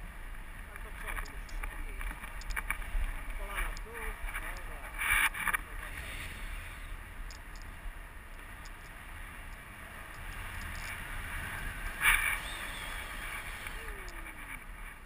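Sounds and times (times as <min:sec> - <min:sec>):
wind rushing over microphone: 0:01.1 - 0:15.0.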